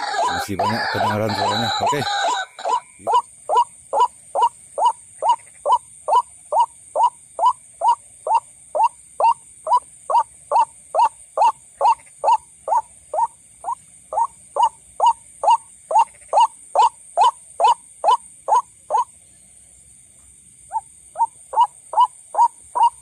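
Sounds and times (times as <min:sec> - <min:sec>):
waterhen calling: 0:00.0 - 0:19.1, 0:20.7 - 0:23.0
steady high hiss: 0:00.0 - 0:23.0.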